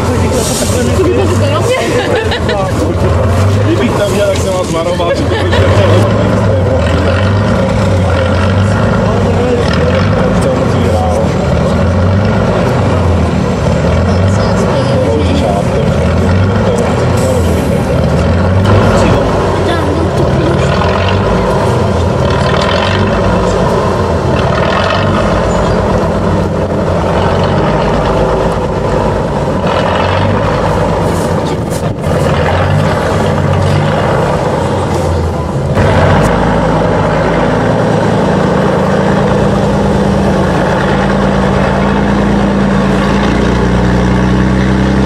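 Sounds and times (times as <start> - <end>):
truck diesel engine revving: 0.0 - 45.0.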